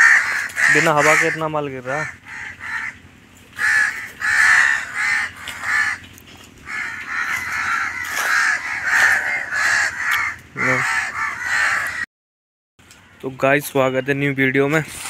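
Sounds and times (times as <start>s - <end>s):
crows cawing: 0.0s - 12.1s, 12.9s - 13.4s.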